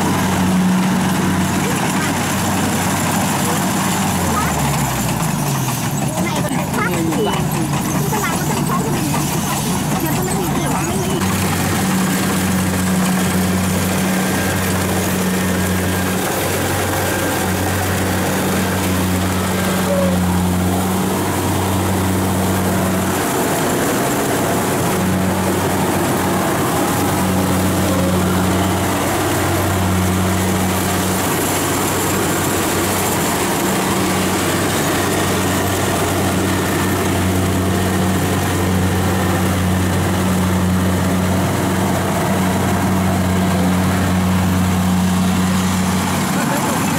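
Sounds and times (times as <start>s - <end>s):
combine harvester droning: 0.0s - 46.9s.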